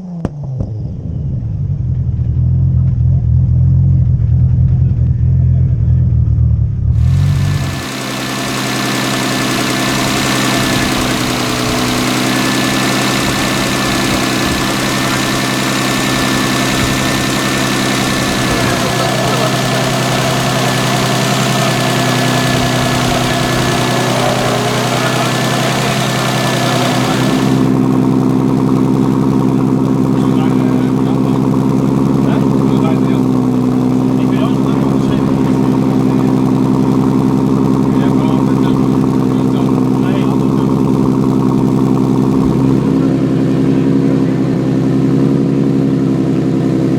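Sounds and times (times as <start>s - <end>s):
car engine idling: 6.9s - 46.9s.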